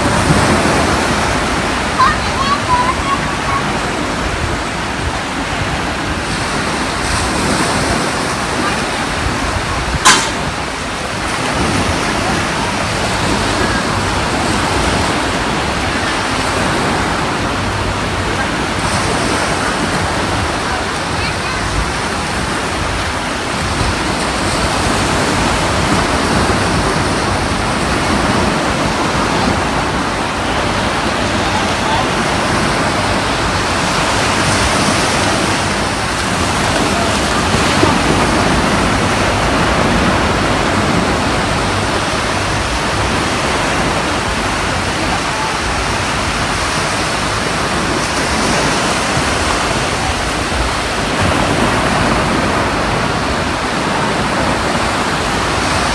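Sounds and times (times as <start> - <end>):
surf breaking on sandy beach: 0.0 - 55.9.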